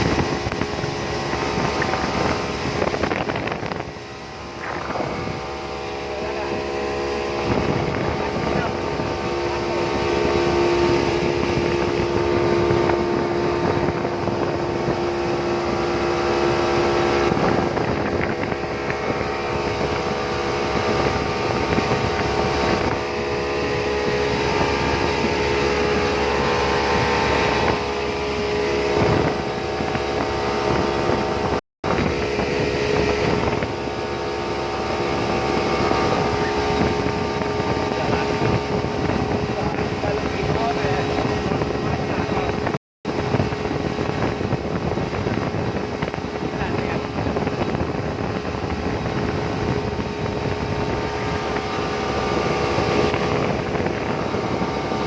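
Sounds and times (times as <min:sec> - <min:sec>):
boat engine running: 0:00.0 - 0:55.0
wind on microphone: 0:00.0 - 0:55.0.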